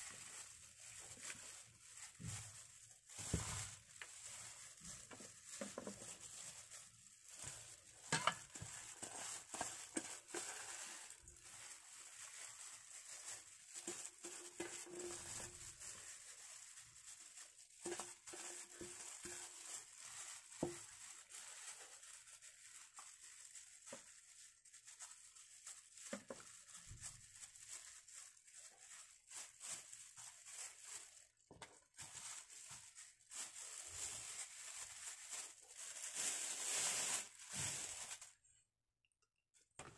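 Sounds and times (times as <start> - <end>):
plastic glove crinkling: 0.0 - 38.8, 39.6 - 39.9.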